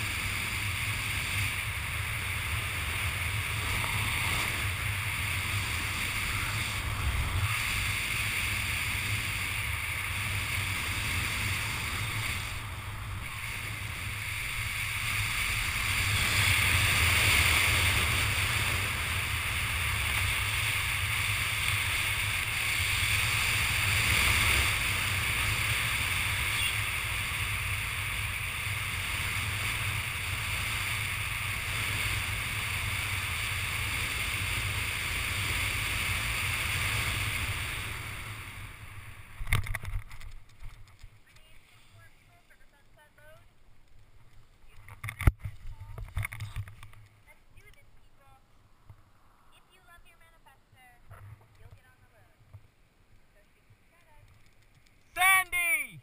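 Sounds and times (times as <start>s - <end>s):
wind rushing over camera: 0.0s - 43.0s, 43.8s - 47.9s.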